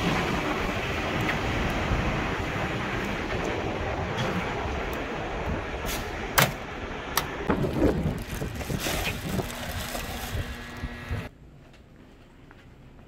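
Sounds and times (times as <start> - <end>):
wind on microphone: 0.0 - 11.3.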